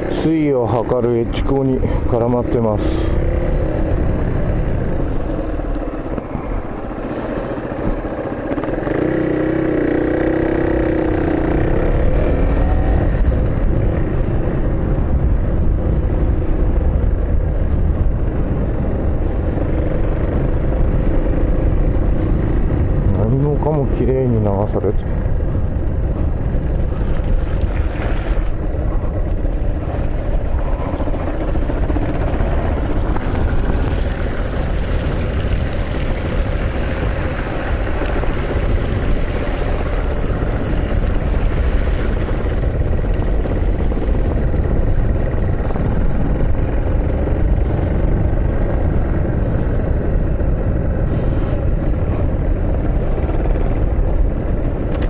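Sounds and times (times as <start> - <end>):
vehicle rumbling in motion: 0.0 - 55.0.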